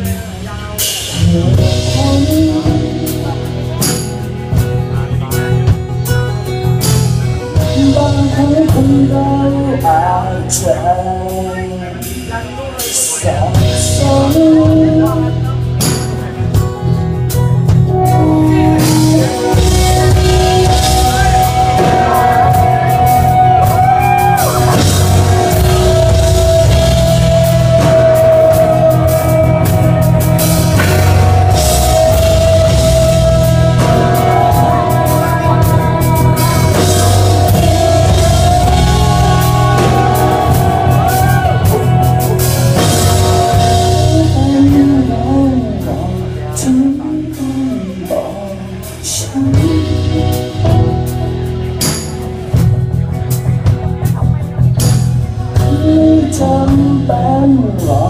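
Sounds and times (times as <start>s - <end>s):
guitar lead with long bent notes: 0.0s - 58.0s
rock band playing: 0.0s - 58.0s.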